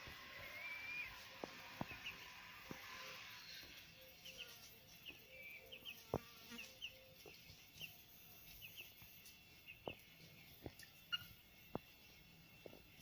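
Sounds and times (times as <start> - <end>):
insect buzzing: 0.0 - 12.0.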